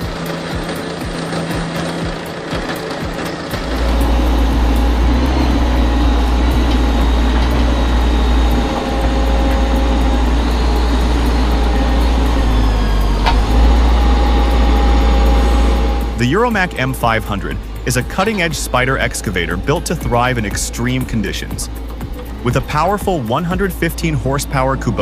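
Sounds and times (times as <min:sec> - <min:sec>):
heavy machine engine rumbling: 0:00.0 - 0:25.0.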